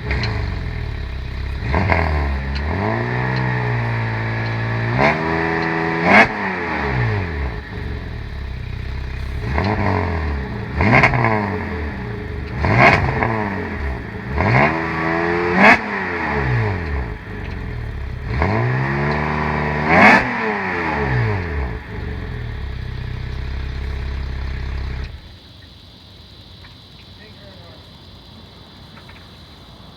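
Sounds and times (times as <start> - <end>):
car engine revving: 0.0 - 25.3
car engine idling: 0.0 - 25.5
exhaust crack: 0.0 - 25.5.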